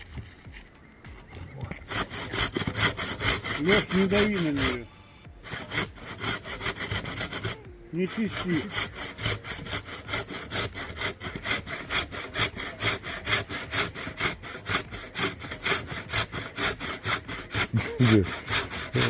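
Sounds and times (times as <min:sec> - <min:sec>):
hand saw cutting wood: 0:01.5 - 0:19.0.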